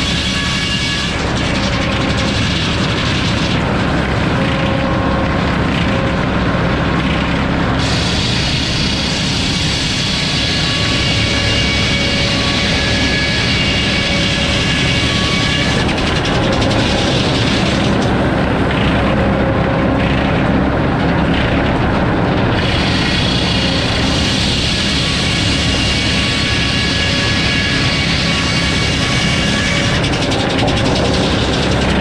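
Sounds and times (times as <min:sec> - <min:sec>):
circular saw machine drone: 0:00.0 - 0:32.0
machine whining tones: 0:00.0 - 0:32.0.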